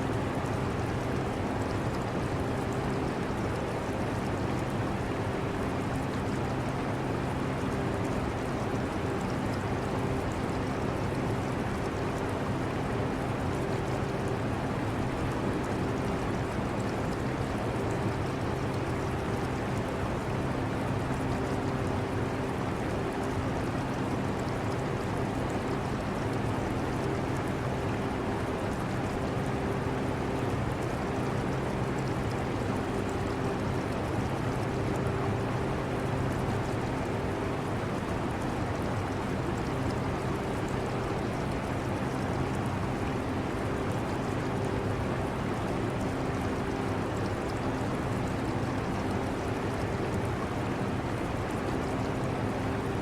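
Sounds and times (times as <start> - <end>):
aquarium water gurgling: 0.0 - 53.0.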